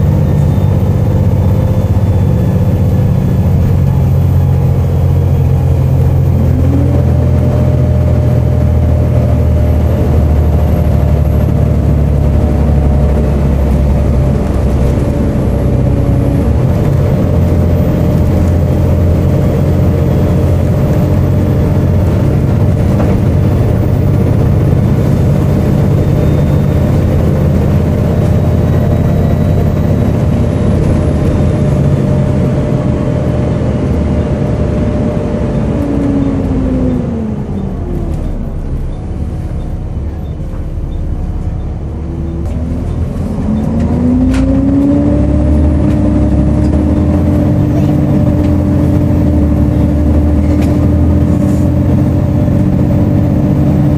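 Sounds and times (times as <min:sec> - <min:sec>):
bus diesel engine running: 0:00.0 - 0:53.9
steady whine: 0:00.0 - 0:53.9.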